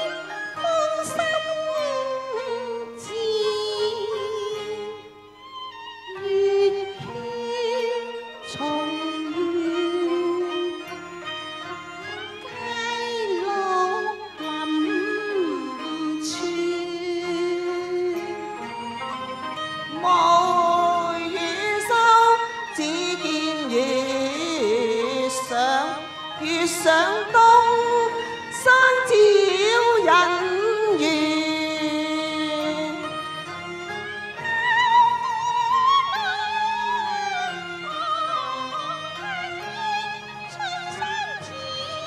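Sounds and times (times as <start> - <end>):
woman singing opera with vibrato: 0.0 - 5.0, 6.1 - 10.8, 12.6 - 18.7, 19.9 - 33.1, 34.6 - 42.0
instrumental accompaniment: 0.0 - 42.0.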